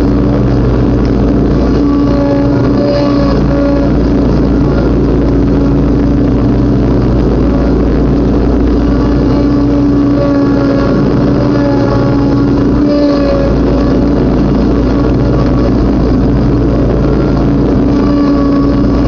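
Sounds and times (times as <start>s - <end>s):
riding lawnmower engine running: 0.0s - 19.0s.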